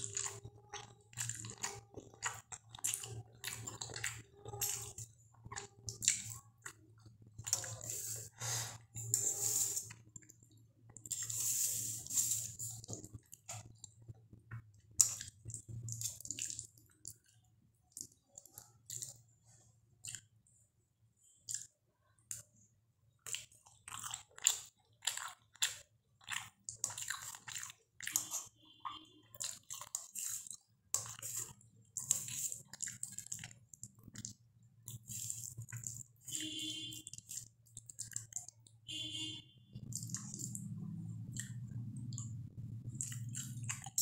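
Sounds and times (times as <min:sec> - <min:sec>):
chewing and wet mouth smacks: 0:00.0 - 0:20.6, 0:21.3 - 0:39.0, 0:39.7 - 0:44.0.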